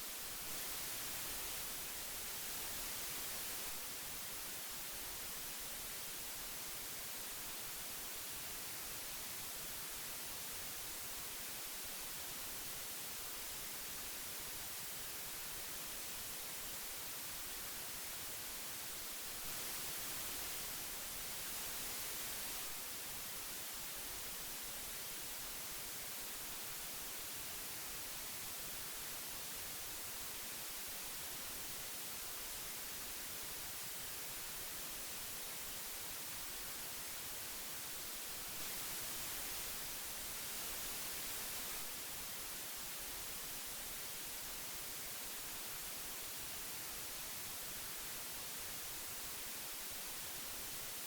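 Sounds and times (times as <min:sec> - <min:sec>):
tape hiss: 0:00.0 - 0:51.0.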